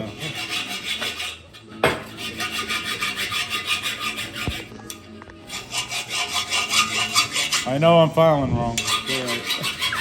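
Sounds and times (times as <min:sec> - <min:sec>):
hand file rasping on metal: 0:00.0 - 0:04.7, 0:05.4 - 0:10.0.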